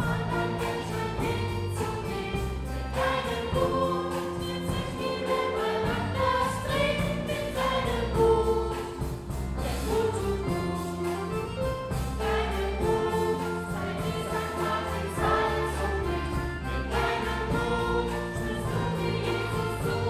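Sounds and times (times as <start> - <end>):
children's choir singing: 0.0 - 20.0
instrumental accompaniment: 0.0 - 20.0.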